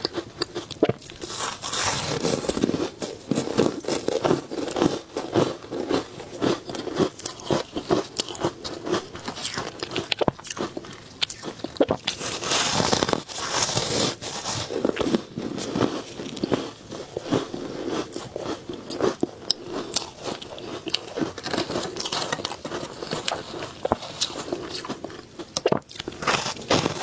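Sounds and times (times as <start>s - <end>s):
crunching frozen ice: 0.0s - 27.0s.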